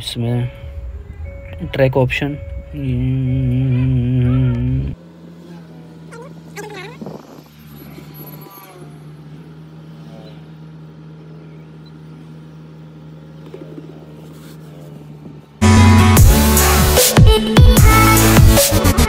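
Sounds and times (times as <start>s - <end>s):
car running low hum: 0.0s - 19.0s.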